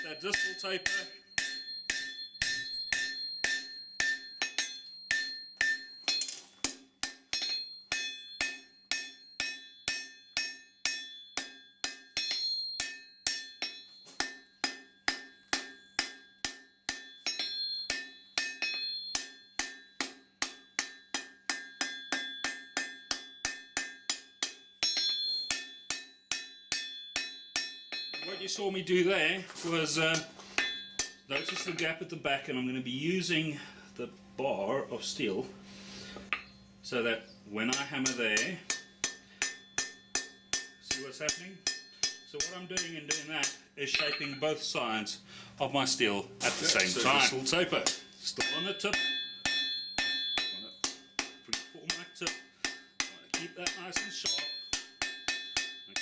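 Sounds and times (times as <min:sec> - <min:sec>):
hammer striking steel on anvil: 0:00.0 - 0:28.6, 0:29.5 - 0:31.9, 0:36.0 - 0:36.7, 0:37.5 - 0:44.8, 0:46.4 - 0:56.0.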